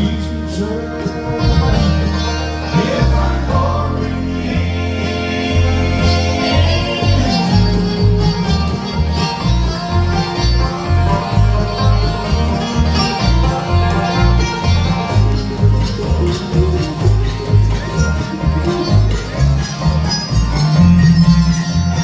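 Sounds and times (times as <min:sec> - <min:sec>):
banjo rolling: 0:00.0 - 0:22.0
bluegrass band playing: 0:00.0 - 0:22.0.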